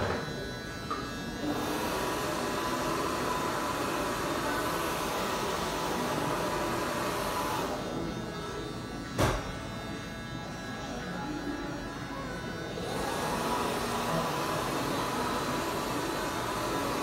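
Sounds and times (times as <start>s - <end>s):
electric hair clippers buzzing: 0.0s - 17.0s.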